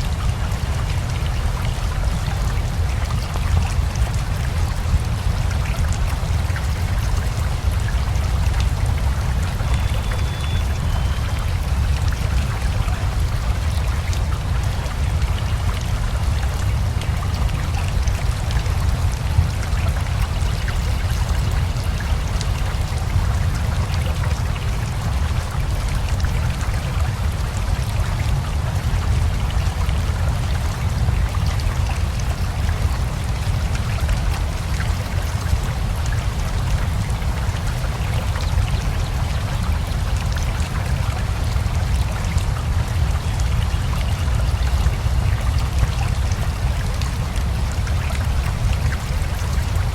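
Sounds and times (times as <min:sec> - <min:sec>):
river flowing: 0:00.0 - 0:49.9
steady rain: 0:00.0 - 0:49.9.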